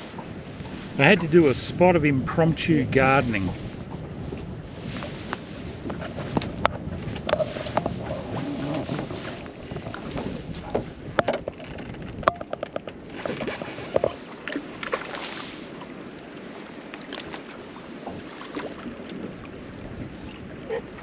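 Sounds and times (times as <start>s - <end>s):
water around boat: 0.0s - 21.0s
wind: 0.0s - 21.0s.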